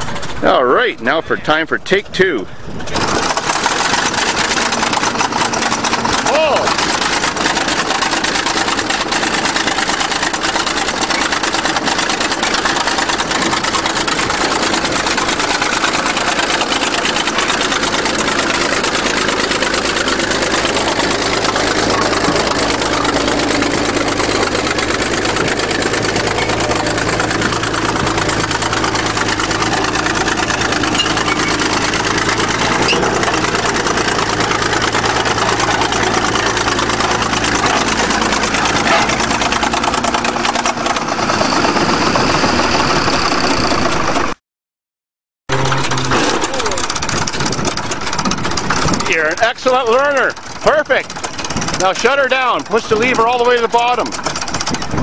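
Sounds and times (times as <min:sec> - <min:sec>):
bulldozer diesel engine running: 0:00.0 - 0:44.4, 0:45.5 - 0:55.0.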